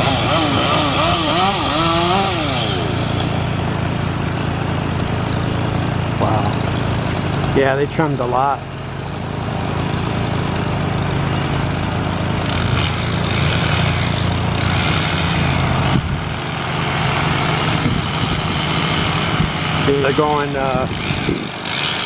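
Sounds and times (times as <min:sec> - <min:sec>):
tree trimmer engine running: 0:00.0 - 0:22.0.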